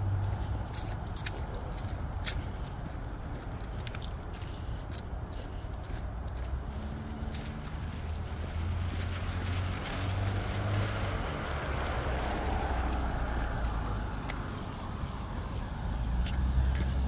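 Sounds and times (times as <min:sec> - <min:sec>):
tyres hissing on wet road: 0:00.0 - 0:03.4, 0:04.2 - 0:17.0.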